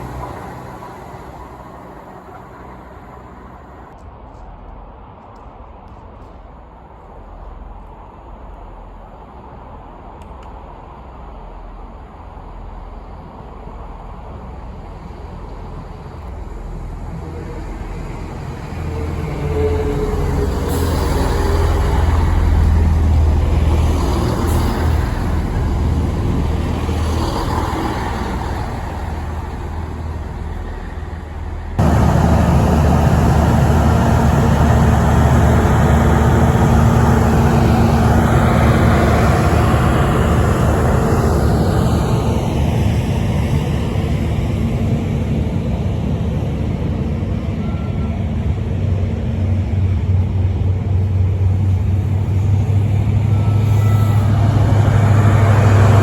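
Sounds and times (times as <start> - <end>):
train passing: 0.0 - 4.3, 10.8 - 56.0
train engine hum: 0.0 - 56.0.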